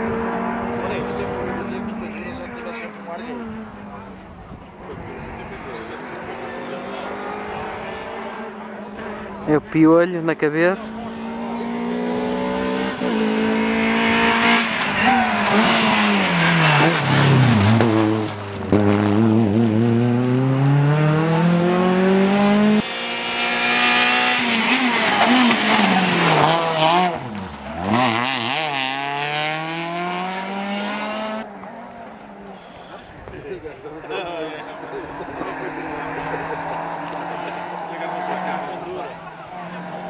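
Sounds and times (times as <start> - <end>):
rally car engines revving: 0.0 - 40.0.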